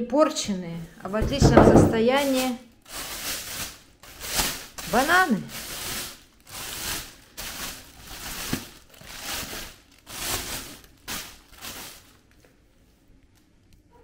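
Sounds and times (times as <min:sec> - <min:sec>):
packaging rustling and crinkling: 0:01.3 - 0:12.6.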